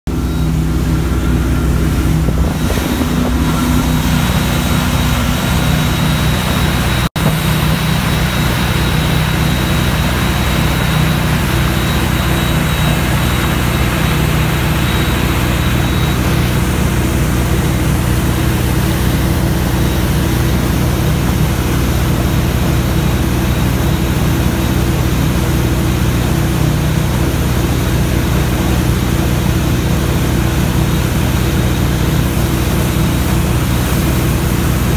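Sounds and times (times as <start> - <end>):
boat engine running: 0.1 - 34.9
rushing water of wake: 0.1 - 34.9.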